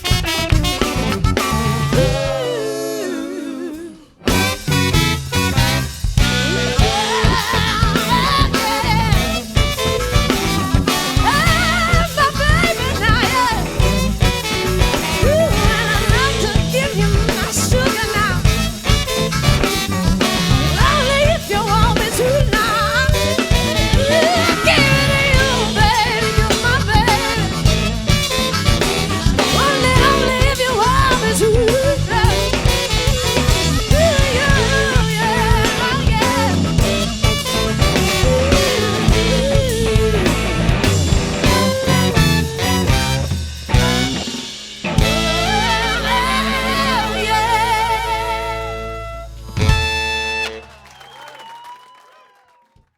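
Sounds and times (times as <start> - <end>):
live band playing soul-funk: 0.0 - 50.9.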